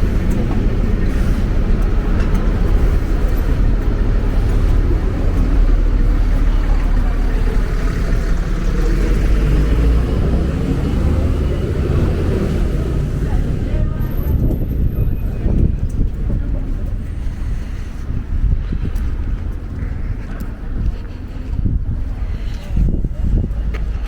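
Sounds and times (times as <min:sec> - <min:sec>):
moving vehicle rumble: 0:00.0 - 0:24.0.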